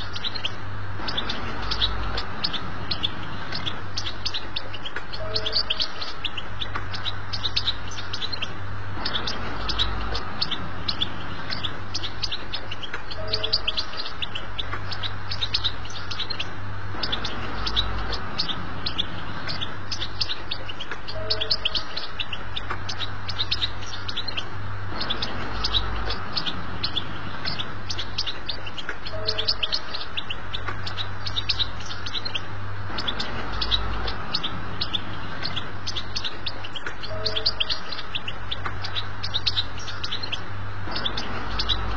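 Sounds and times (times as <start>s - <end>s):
goldfinch twittering song: 0.0s - 41.9s
steady low hum: 0.0s - 41.9s.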